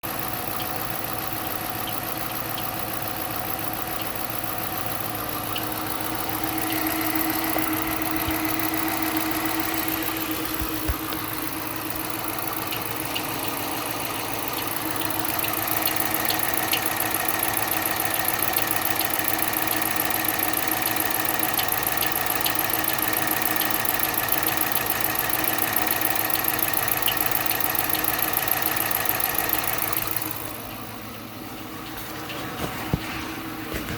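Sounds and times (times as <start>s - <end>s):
car engine running with a knock: 0.0s - 33.9s.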